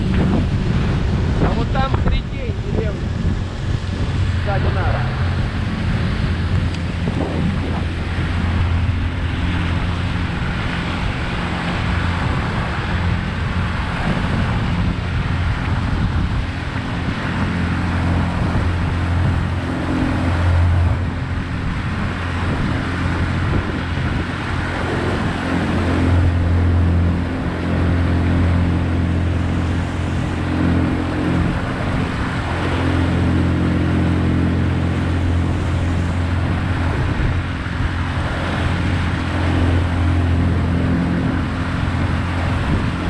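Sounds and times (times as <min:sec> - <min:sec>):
outboard motor droning: 0:00.0 - 0:43.0
water rushing past hull: 0:00.0 - 0:43.0
wind on microphone: 0:00.0 - 0:43.0.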